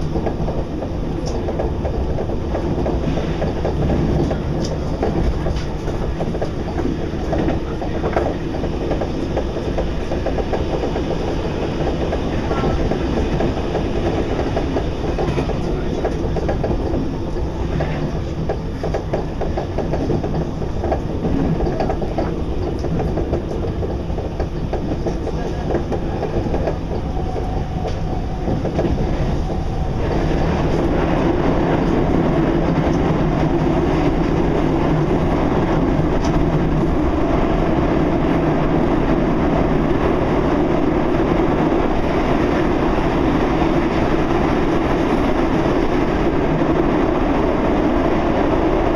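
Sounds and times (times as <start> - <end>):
train rumbling on rails: 0.0 - 48.9
wheels rattling and clicking: 0.0 - 48.9.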